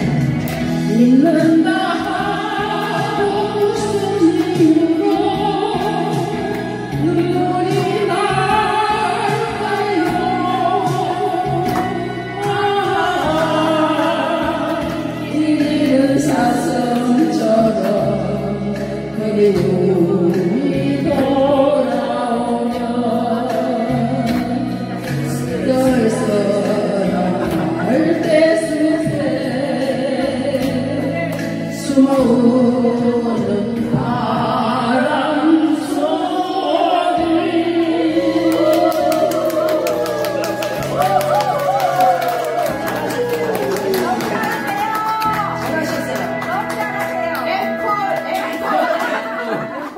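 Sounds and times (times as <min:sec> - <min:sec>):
instrumental backing track: 0:00.0 - 0:49.9
women singing: 0:00.0 - 0:49.9.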